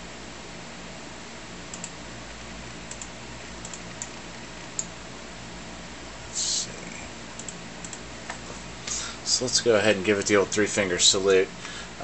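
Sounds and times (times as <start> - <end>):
desktop computer humming: 0.0 - 12.0.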